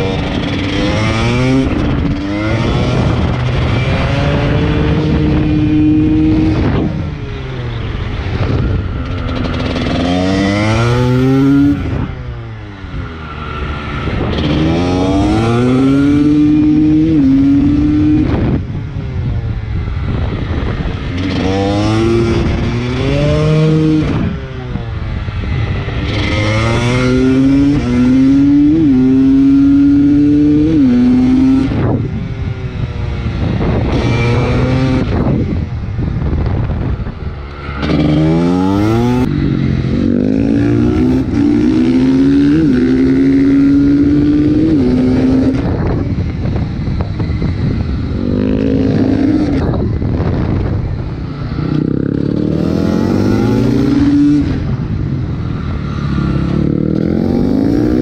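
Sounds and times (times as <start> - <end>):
motorcycle engine revving hard: 0.0 - 58.0.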